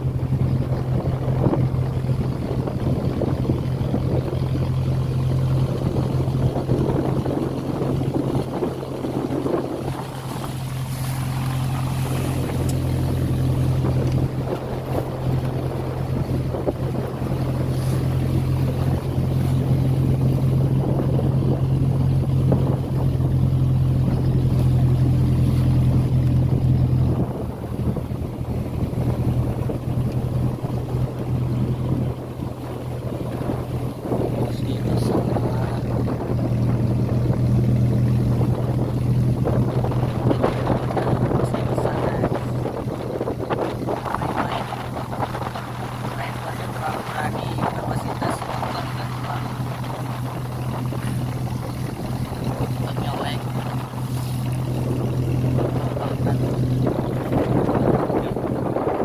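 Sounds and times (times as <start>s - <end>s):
boat engine droning: 0.0s - 59.0s
waves splashing against hull: 0.0s - 59.0s
wind on microphone: 0.0s - 59.0s.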